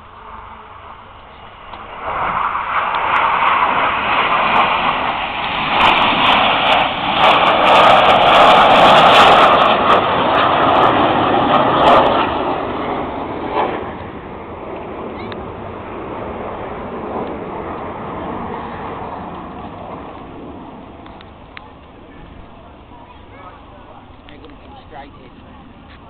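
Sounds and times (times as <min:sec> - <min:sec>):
jets passing low overhead: 0:00.0 - 0:26.0.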